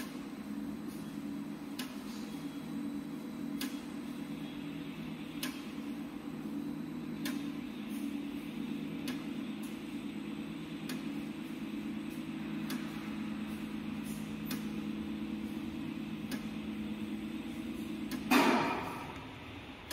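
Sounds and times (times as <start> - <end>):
electric drive low hum: 0.0 - 19.9.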